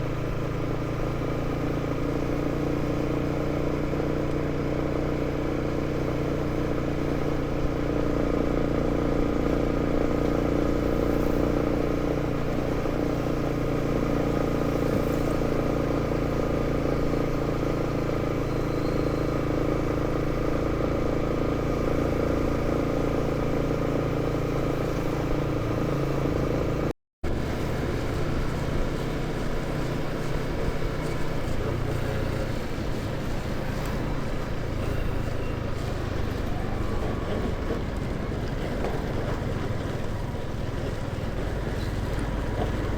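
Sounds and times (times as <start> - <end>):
motorcycle engine running: 0.0 - 42.9
road noise: 6.0 - 42.9.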